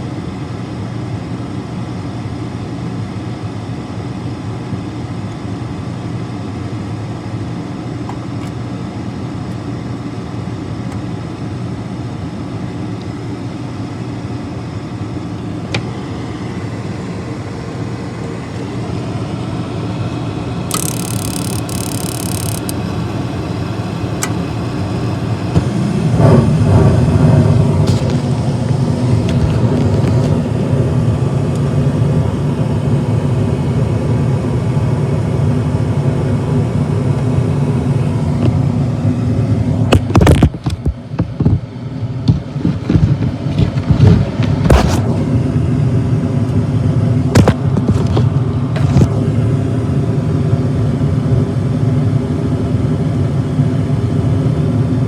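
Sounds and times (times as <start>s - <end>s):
gas furnace humming: 0.0s - 40.0s, 44.3s - 55.0s.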